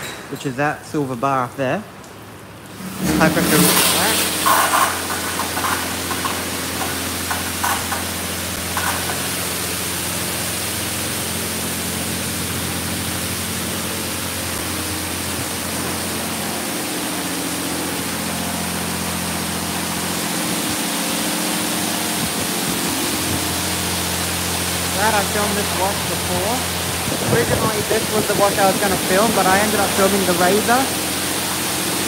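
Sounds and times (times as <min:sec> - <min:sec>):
low machine hum: 0:00.0 - 0:32.0
water jets spraying onto car: 0:00.5 - 0:32.0.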